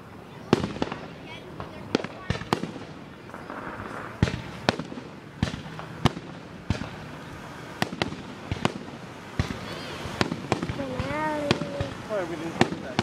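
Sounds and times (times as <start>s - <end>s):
firework shells bursting: 0.5s - 13.0s.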